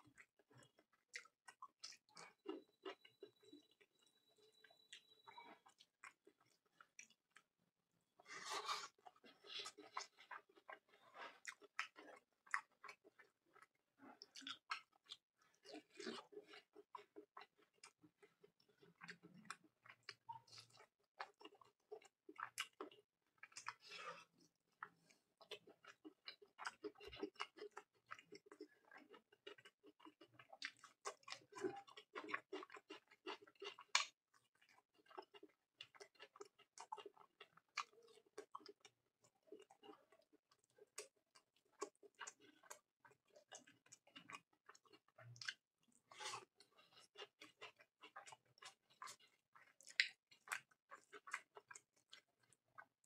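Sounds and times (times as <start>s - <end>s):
wet chewing: 8.2s - 53.0s.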